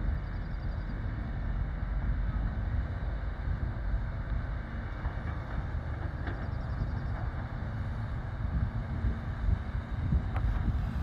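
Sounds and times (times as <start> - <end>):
diesel truck engine rumbling: 0.0 - 11.0
wind buffeting microphone: 0.0 - 11.0.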